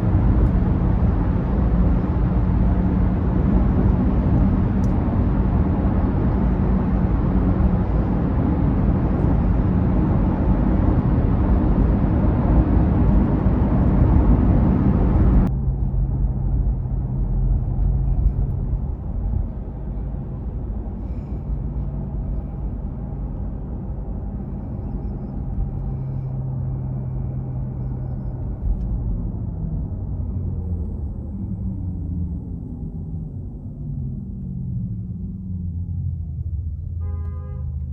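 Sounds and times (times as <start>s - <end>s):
road and tyre rumble: 0.0s - 37.9s.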